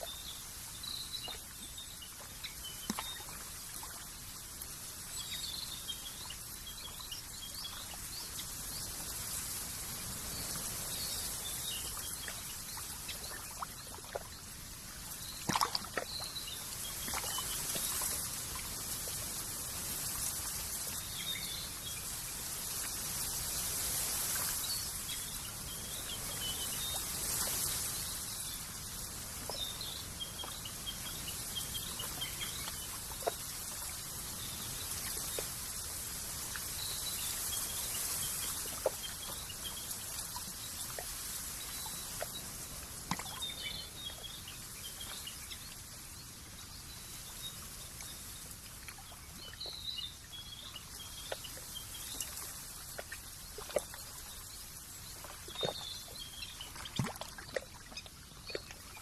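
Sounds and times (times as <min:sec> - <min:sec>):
trickling water: 0:00.0 - 0:59.0.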